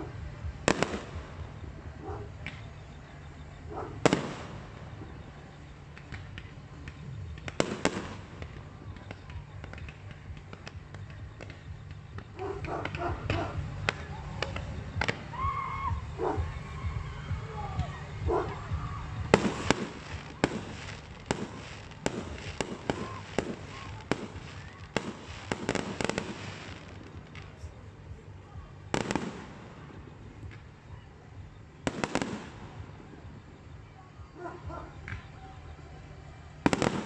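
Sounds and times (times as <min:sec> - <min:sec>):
fireworks bangs and crackles: 0:00.0 - 0:37.0
loud firework bursts: 0:00.0 - 0:37.0.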